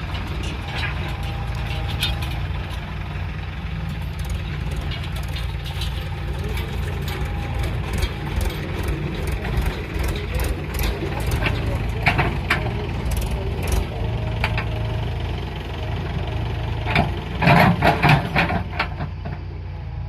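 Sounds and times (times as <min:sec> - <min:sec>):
backhoe loader engine running: 0:00.0 - 0:20.0.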